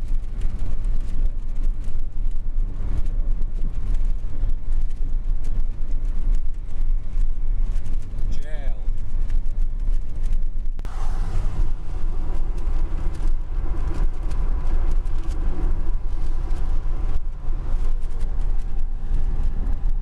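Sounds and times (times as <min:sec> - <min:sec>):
road and wind noise in car: 0:00.0 - 0:20.0.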